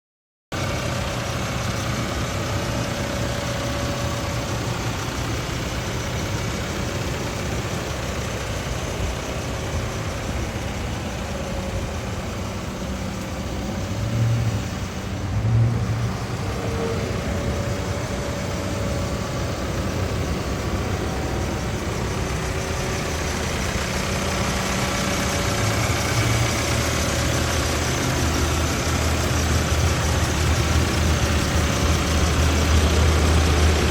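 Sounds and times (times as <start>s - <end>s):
diesel engine idling: 0.5s - 33.9s.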